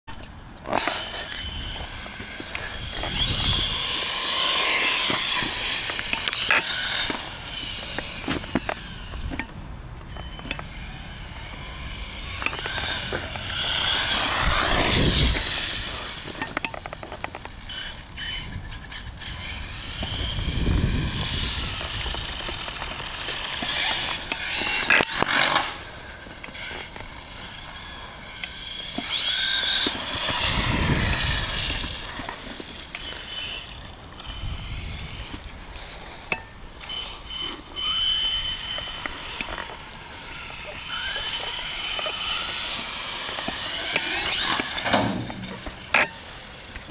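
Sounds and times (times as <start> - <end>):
toy truck electric motor whining: 0.6 - 46.9.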